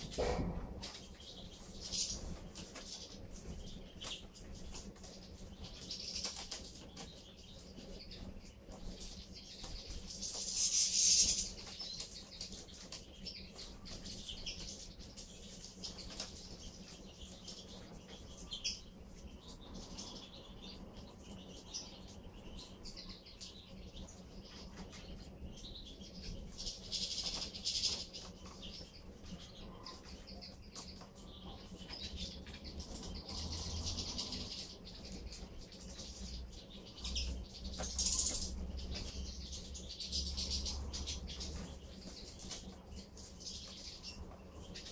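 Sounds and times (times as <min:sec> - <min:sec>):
high twittering bird calls: 0:00.0 - 0:44.9.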